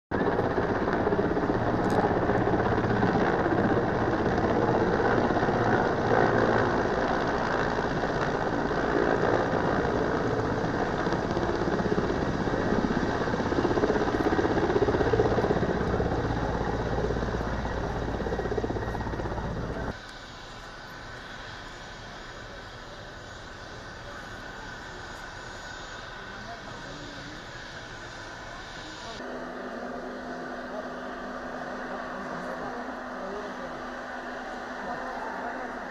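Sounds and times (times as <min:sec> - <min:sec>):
helicopter rotor and engines: 0:00.1 - 0:35.9.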